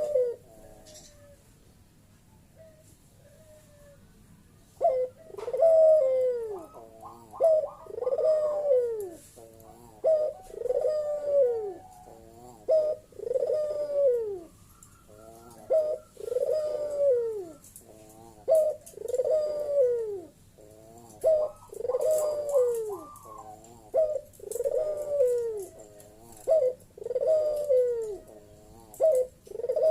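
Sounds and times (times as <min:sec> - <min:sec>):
dove cooing: 0:00.0 - 0:01.4, 0:04.8 - 0:29.9.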